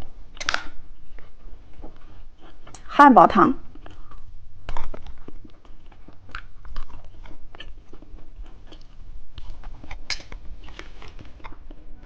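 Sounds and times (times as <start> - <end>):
crunchy candy chewing: 0.0 - 2.9, 3.6 - 11.9.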